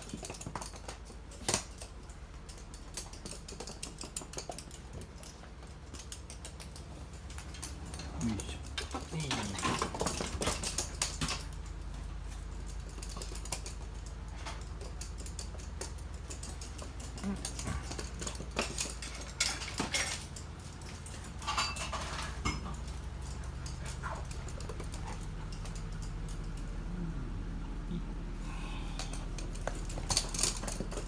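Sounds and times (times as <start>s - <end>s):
dogs playing clicks and scuffles: 0.0s - 27.1s, 28.7s - 31.0s
steady low hum: 0.0s - 31.0s.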